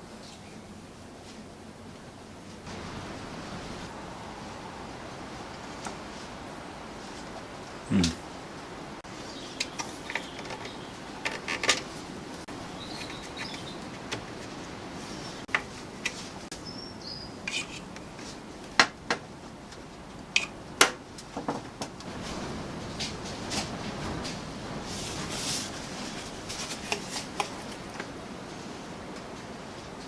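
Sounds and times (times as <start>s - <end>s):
low steady hiss: 0.0s - 30.0s.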